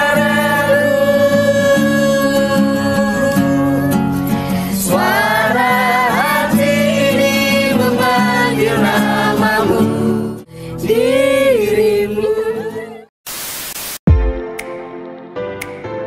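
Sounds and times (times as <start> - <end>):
acoustic guitar: 0.0 - 13.0.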